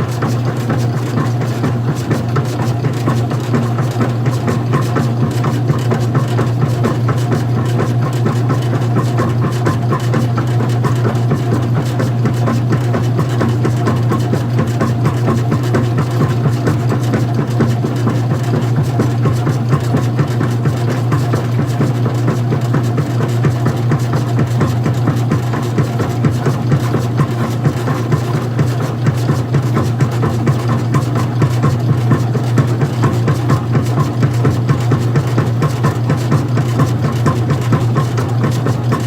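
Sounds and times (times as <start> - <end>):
fast continuous rattle: 0.0 - 39.0
washing machine hum: 0.0 - 39.0.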